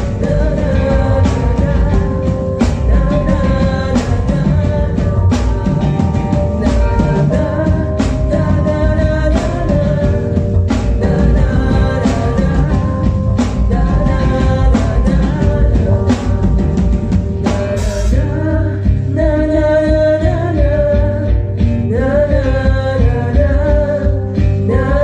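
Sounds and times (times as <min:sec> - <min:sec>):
person singing: 0:00.0 - 0:25.0
rock band playing: 0:00.0 - 0:25.0.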